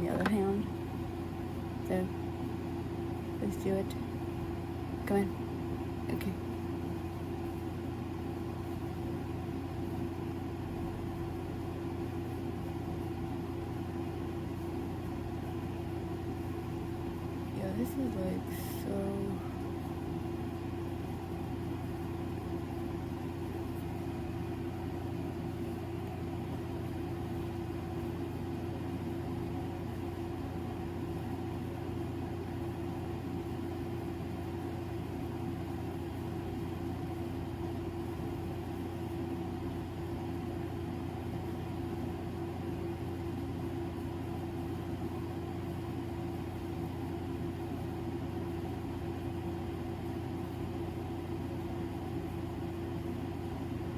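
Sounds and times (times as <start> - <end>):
air conditioner fan humming: 0.0 - 53.9.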